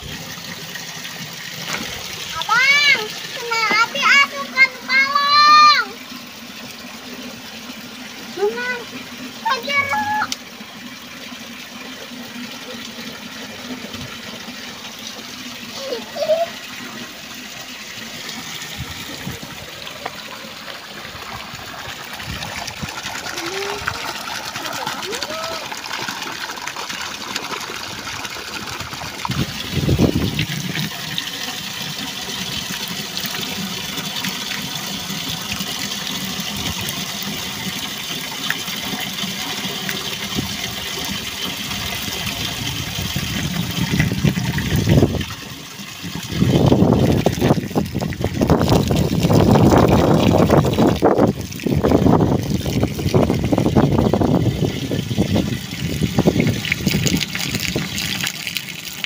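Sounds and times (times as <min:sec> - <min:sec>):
water running: 0:00.0 - 0:59.0
water splashing and gushing: 0:00.0 - 0:59.0.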